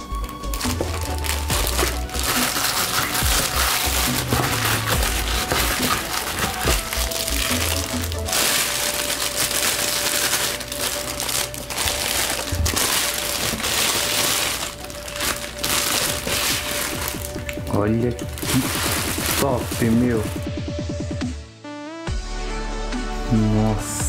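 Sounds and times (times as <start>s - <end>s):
plastic wrap crinkling: 0.0s - 20.5s
background music: 0.0s - 24.0s.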